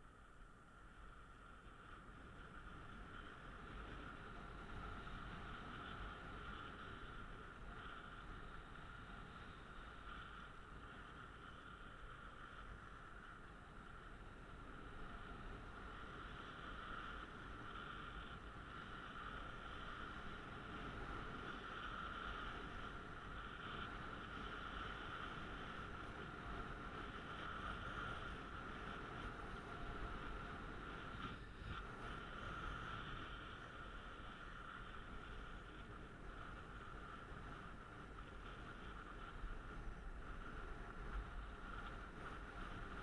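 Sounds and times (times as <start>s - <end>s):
wind rushing past microphone: 1.1s - 43.0s.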